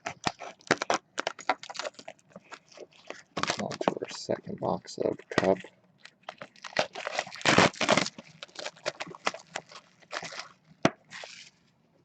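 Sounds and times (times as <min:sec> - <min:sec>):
cardboard and wrapping rustling: 0:00.0 - 0:11.7.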